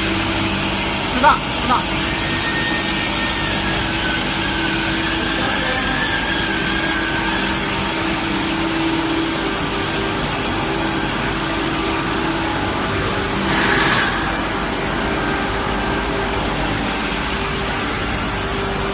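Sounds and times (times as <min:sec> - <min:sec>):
machinery hum: 0:00.0 - 0:18.9.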